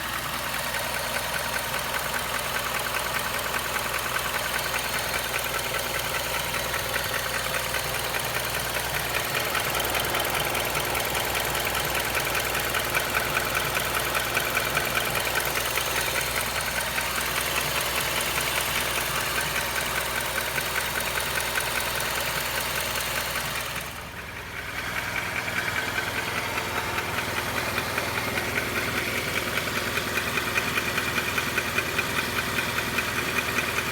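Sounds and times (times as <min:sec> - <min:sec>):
car engine running: 0:00.0 - 0:33.9
rapid engine ticking: 0:00.0 - 0:33.9.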